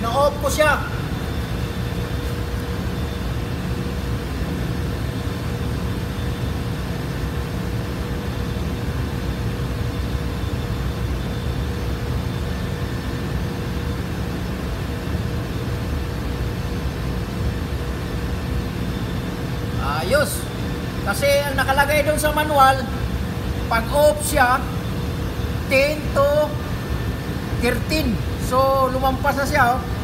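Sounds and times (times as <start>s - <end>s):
machinery drone: 0.0s - 30.0s.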